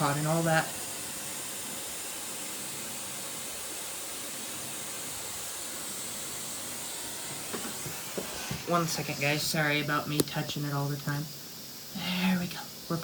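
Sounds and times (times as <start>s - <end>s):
hiss of rushing air: 0.0s - 13.0s.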